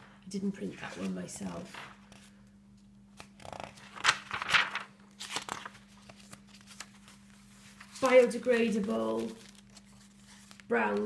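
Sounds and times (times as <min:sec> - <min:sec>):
paper pages rustling: 0:00.9 - 0:11.0.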